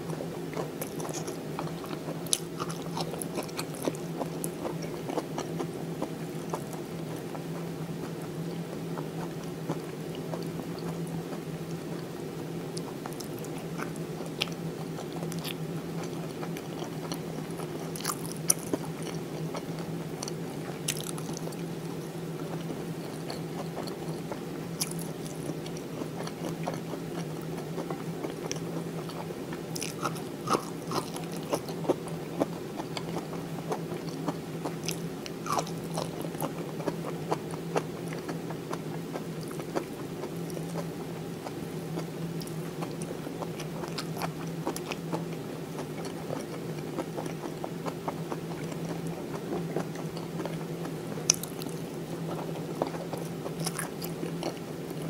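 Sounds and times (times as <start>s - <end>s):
steady low hum: 0.0s - 55.0s
chewing and biting: 0.5s - 12.1s, 12.7s - 55.0s.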